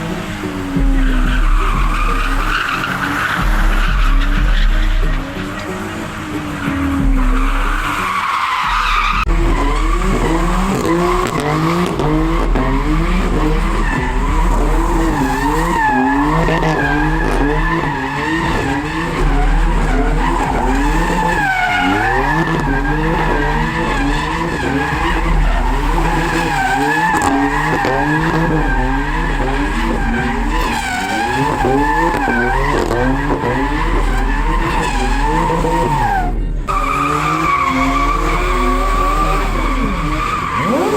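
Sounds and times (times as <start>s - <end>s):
car engine revving: 0.0s - 40.9s
tyres squealing: 0.0s - 40.9s.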